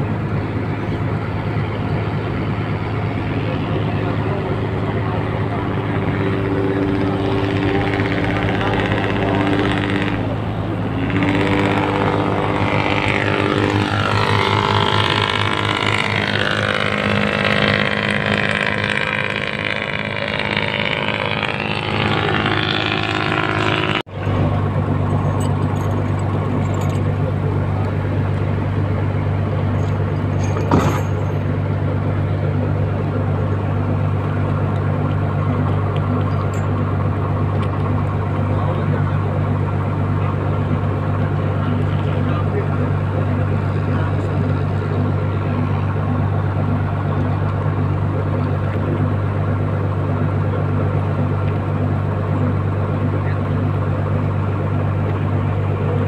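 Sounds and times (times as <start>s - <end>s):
boat engine humming: 0.0s - 56.0s
whine sliding in pitch: 0.0s - 56.0s.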